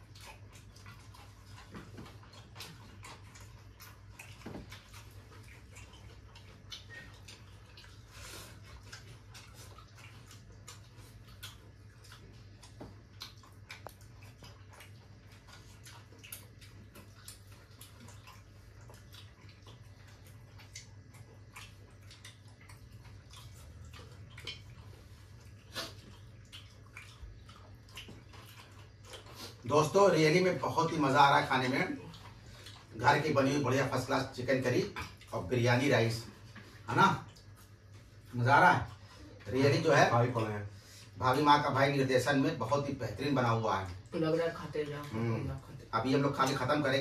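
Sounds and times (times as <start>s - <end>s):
chewing and fingers on steel plates: 0.0s - 40.4s.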